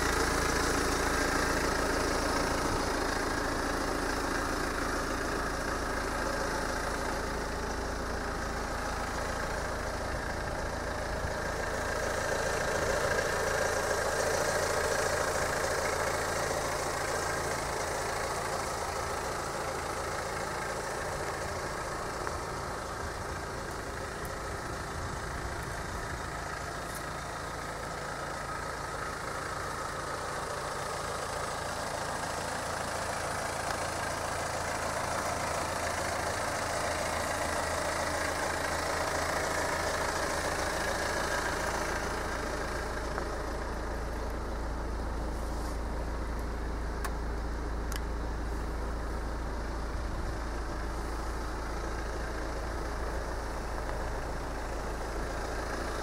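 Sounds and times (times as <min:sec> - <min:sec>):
diesel car engine idling: 0:00.0 - 0:56.0.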